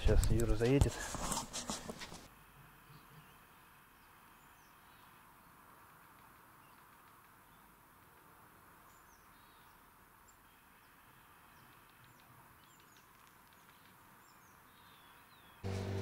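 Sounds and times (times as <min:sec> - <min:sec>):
faint birdsong: 0:02.7 - 0:16.0.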